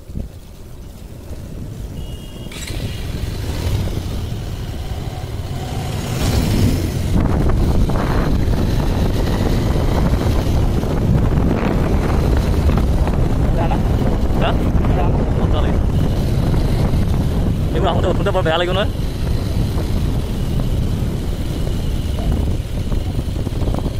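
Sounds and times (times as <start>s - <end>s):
vehicle rumbling: 0.0s - 23.9s.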